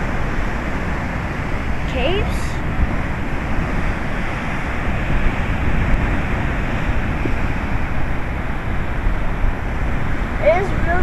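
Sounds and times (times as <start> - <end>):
ocean surf breaking on rocks: 0.0 - 11.0
wind on microphone: 0.0 - 11.0.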